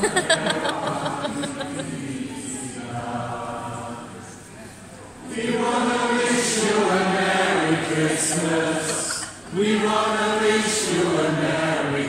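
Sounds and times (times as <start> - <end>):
mixed choir singing: 0.0 - 4.5, 5.2 - 12.0.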